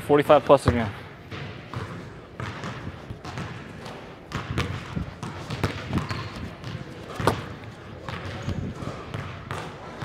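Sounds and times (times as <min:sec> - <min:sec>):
basketballs bouncing on wooden floor: 0:00.6 - 0:10.0.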